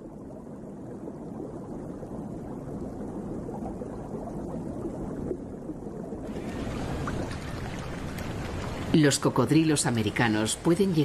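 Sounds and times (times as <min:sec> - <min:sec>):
muffled underwater water noise: 0:00.0 - 0:11.0.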